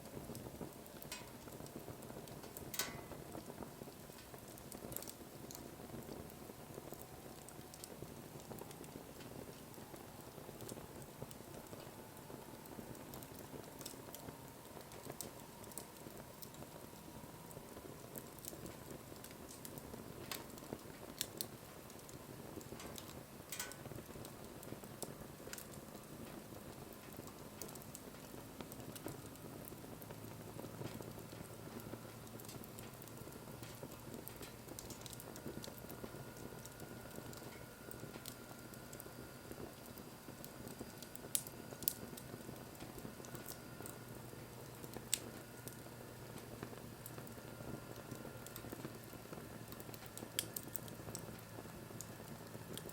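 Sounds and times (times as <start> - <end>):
soft steady hiss: 0.0 - 52.9
wood fire crackling: 0.0 - 52.9.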